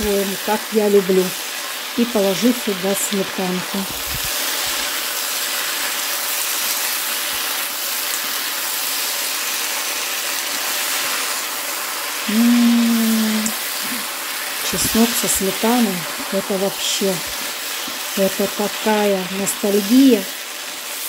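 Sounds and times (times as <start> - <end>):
vegetables sizzling in a frying pan: 0.0 - 21.0.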